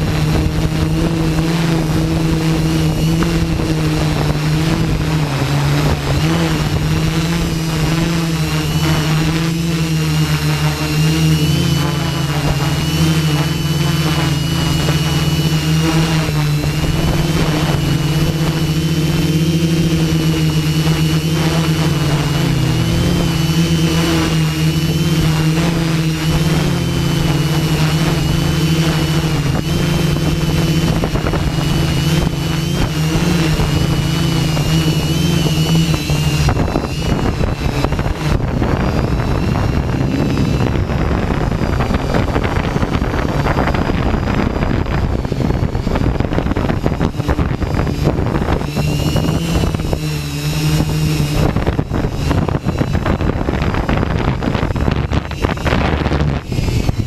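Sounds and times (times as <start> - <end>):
drone motors humming: 0.0 - 57.0
wind buffeting microphone: 0.0 - 57.0.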